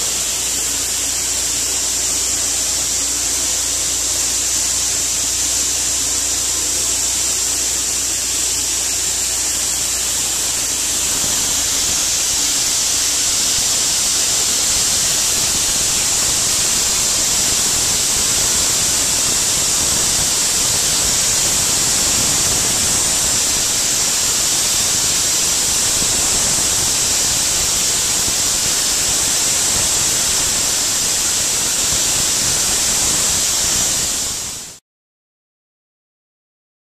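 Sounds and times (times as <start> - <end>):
sandblaster nozzle hissing: 0.0 - 34.8.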